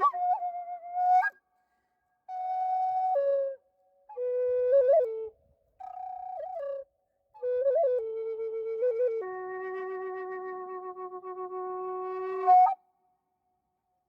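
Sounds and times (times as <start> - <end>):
wooden flute: 0.0 - 13.0.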